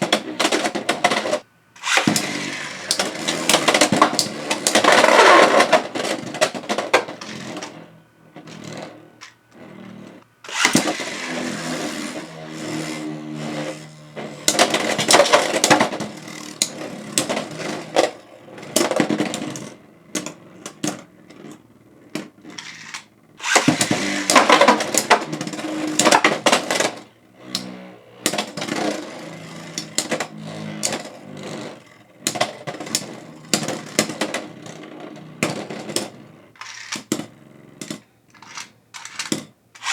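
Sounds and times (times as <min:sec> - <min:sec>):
spinning tops whirring: 0:00.0 - 0:39.9.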